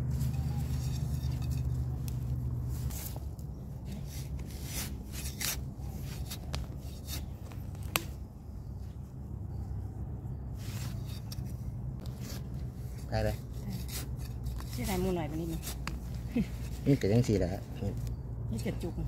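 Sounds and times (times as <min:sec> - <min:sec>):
hands scraping soil: 0:00.0 - 0:08.1, 0:10.6 - 0:18.2.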